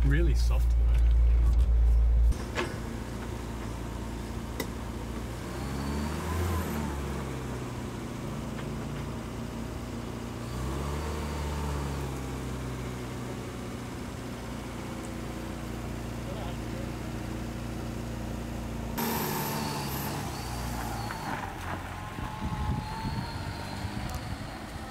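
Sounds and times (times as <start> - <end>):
car engine idling and revving: 0.0 - 24.9.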